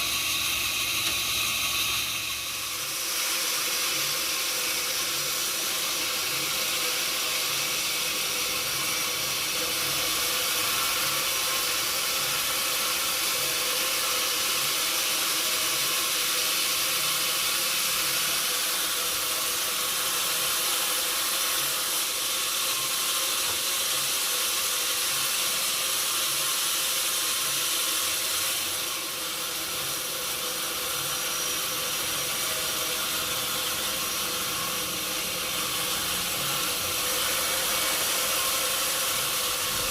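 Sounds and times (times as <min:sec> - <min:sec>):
sawmill machinery hiss: 0:00.0 - 0:39.9.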